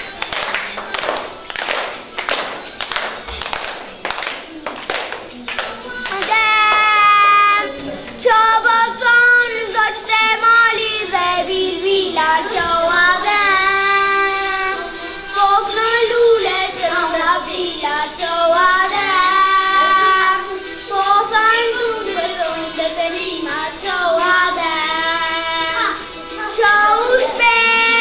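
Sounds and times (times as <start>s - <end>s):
girl singing: 5.4s - 28.0s.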